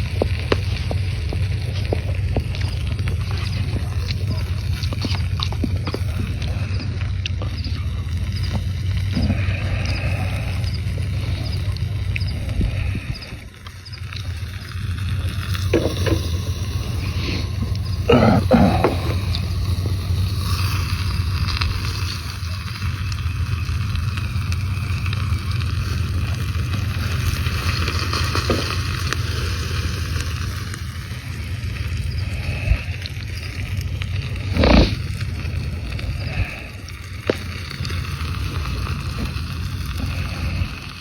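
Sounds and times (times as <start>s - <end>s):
gas stove burner roaring: 0.0s - 41.0s.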